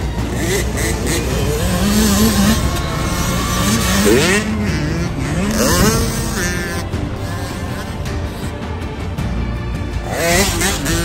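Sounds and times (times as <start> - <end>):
motocross bikes revving past: 0.0 - 11.0.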